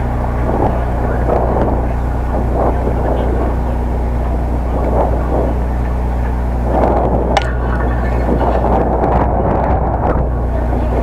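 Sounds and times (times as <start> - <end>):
distant voices calling out: 0.0 - 11.0
low mechanical hum: 0.0 - 11.0.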